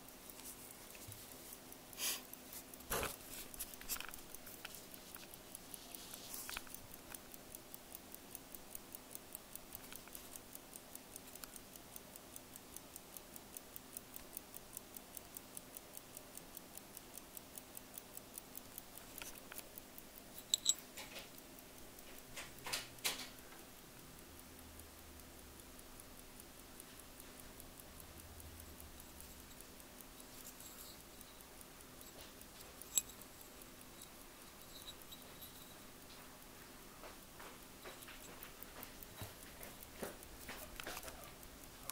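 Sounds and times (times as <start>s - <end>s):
pocket watch ticking: 0.0s - 41.9s
sharp clicks: 0.0s - 41.9s.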